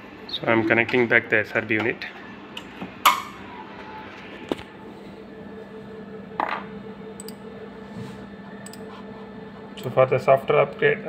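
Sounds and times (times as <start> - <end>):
low electronic hum: 0.0 - 11.0.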